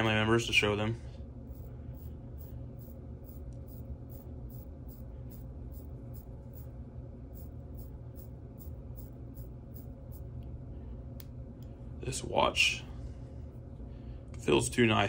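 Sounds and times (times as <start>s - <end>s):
low hum: 0.0s - 14.9s.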